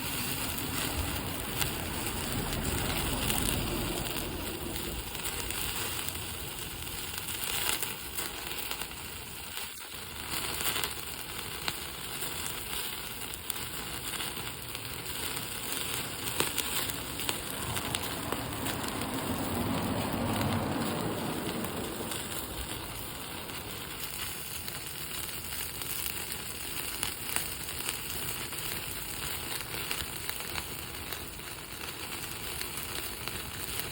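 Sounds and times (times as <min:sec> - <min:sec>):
fire rushing: 0:00.0 - 0:33.9
wood fire crackling and popping: 0:00.0 - 0:33.9.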